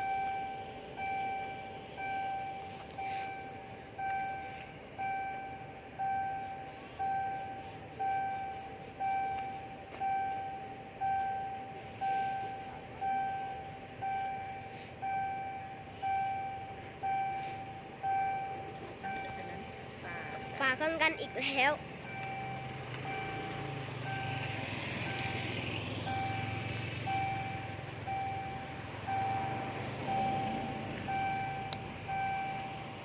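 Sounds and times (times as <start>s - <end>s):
level crossing warning bell ringing: 0.0s - 33.0s.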